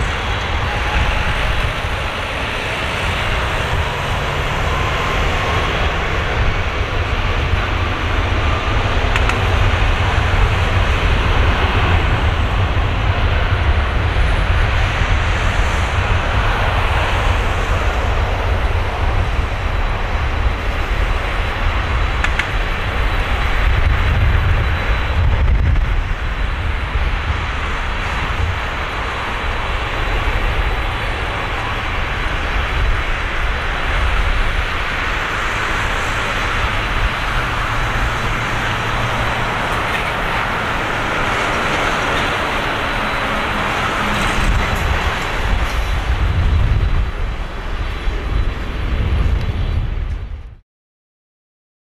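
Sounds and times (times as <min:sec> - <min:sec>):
jet engines at takeoff: 0:00.0 - 0:50.6.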